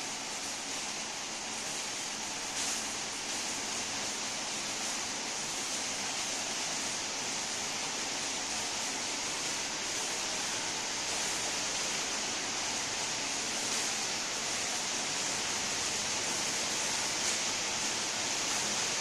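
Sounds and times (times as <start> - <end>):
spark machine hissing: 0.0 - 19.0.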